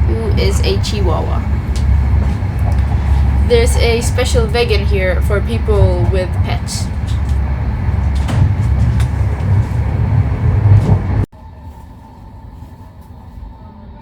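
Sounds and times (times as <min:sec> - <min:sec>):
carriage hum: 0:00.0 - 0:11.3
train rumbling on track: 0:00.0 - 0:11.3
wheels clacking: 0:00.0 - 0:11.3.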